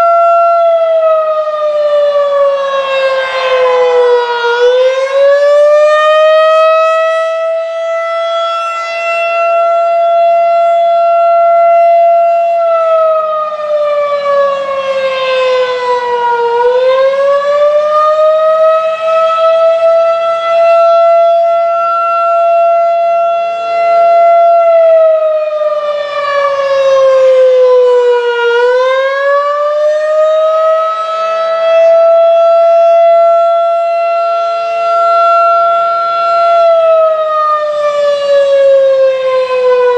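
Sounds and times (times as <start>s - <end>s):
rising and falling warning siren: 0.0s - 39.9s.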